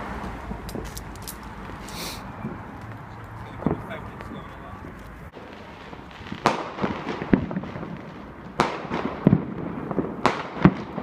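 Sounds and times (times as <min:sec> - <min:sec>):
fireworks bangs: 0:00.0 - 0:11.0
fireworks pops and crackling: 0:00.2 - 0:11.0.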